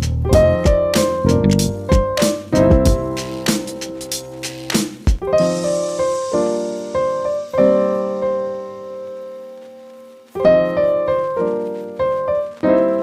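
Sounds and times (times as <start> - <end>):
piano chords ringing: 0.3 - 4.5, 5.2 - 13.0.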